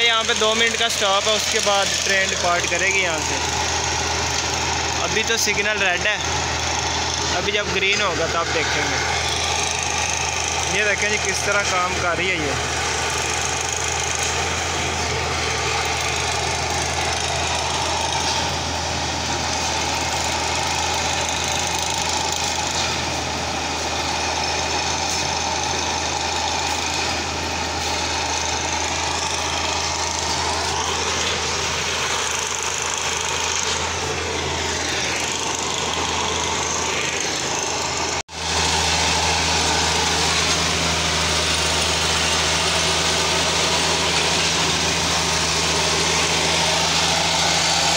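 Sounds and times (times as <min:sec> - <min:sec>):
diesel locomotive engine running: 0:00.0 - 0:47.9.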